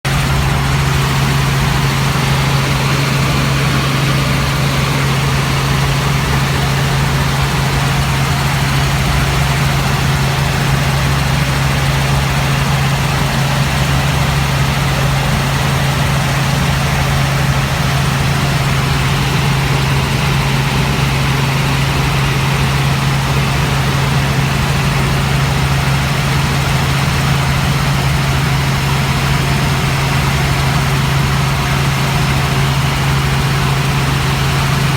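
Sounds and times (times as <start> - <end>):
helicopter cabin drone: 0.0 - 34.9.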